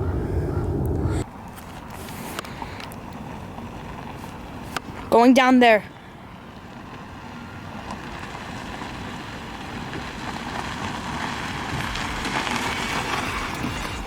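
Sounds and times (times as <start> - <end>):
golf cart tyre and wind noise: 0.0 - 14.0.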